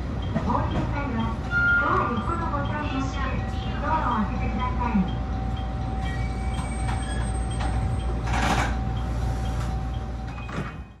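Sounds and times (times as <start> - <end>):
train low hum: 0.0 - 11.0.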